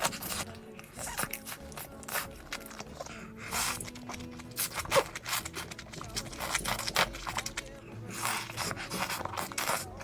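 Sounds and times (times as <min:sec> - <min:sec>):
crisp chewing crackles: 0:00.0 - 0:10.0
soft background music: 0:00.0 - 0:10.0.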